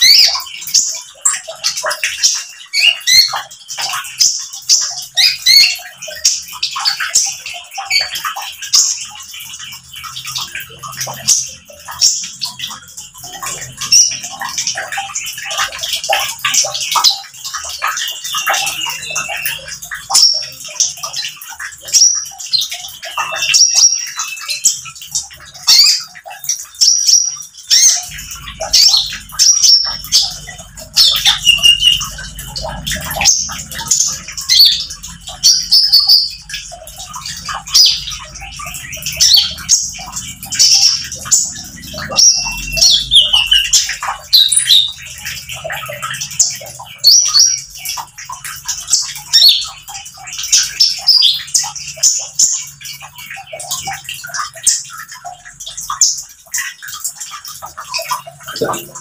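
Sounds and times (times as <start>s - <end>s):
sunbird chirps and trills: 0.0s - 59.0s.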